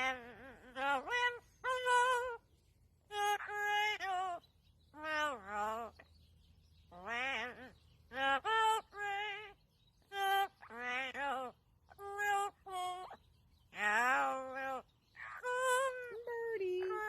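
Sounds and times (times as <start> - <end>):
parrot calling: 0.0 - 2.4, 3.1 - 6.1, 6.9 - 16.2.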